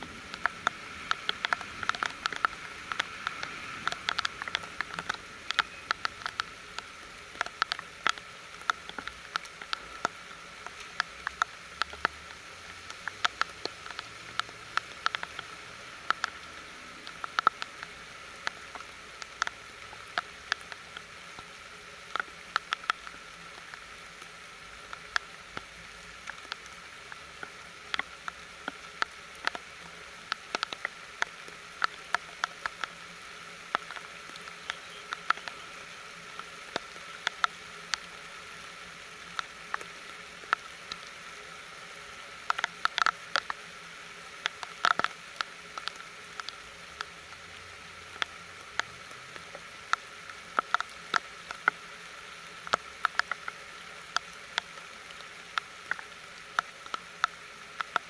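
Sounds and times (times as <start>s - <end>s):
rain hissing: 0.0s - 58.0s
raindrops tapping close by: 0.0s - 58.0s.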